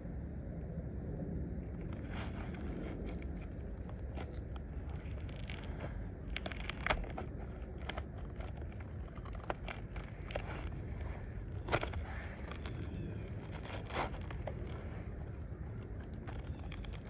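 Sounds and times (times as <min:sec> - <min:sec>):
wind rumble on microphone: 0:00.0 - 0:17.0
shingles scraping and crinkling: 0:01.8 - 0:17.0.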